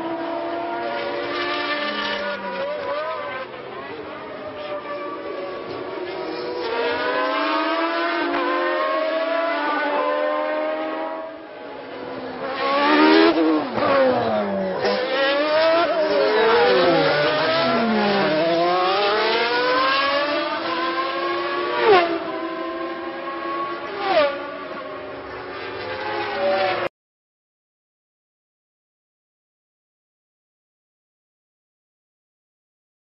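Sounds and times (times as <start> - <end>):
racing car engines at high revs: 0.0 - 26.9.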